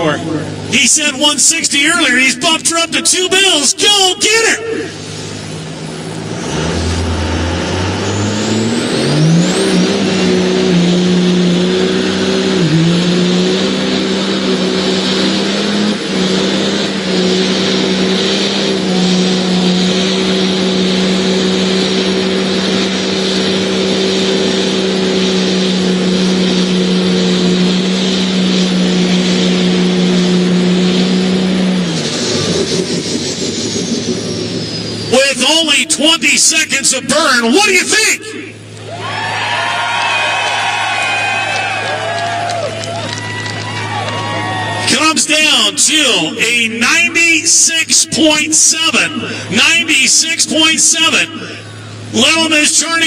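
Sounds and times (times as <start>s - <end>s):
diesel engine revving: 0.0s - 53.0s
tires spinning in water: 2.1s - 37.8s, 38.5s - 53.0s.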